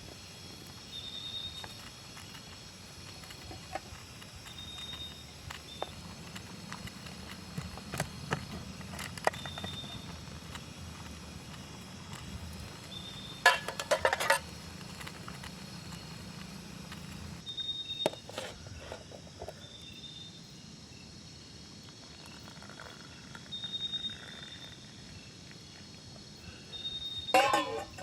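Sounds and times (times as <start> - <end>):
high insect-like calls: 0.0 - 28.0.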